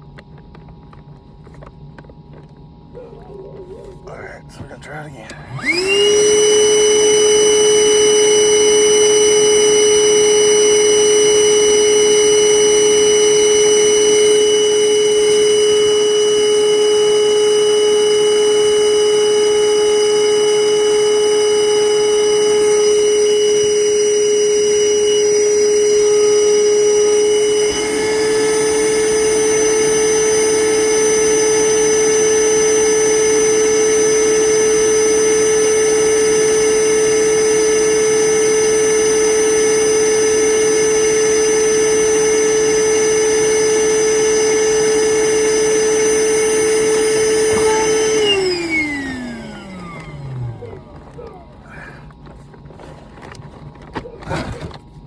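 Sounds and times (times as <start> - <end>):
vacuum motor whining: 0.0 - 55.0.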